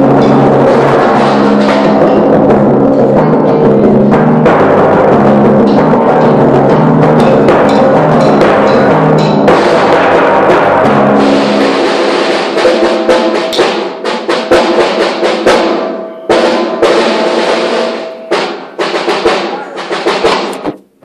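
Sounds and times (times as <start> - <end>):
timpani rolls and strokes: 0.0 - 20.8.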